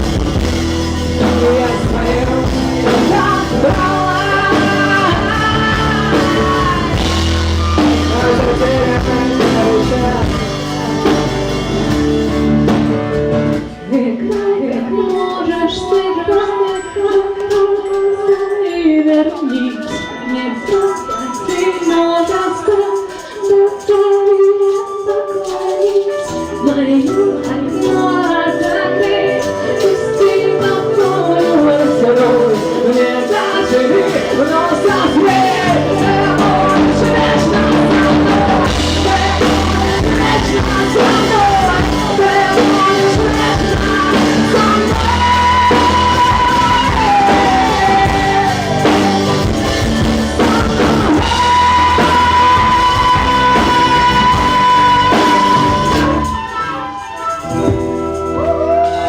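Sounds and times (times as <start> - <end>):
instrumental accompaniment: 0.0 - 59.0
voices singing: 0.8 - 11.8, 13.8 - 57.6.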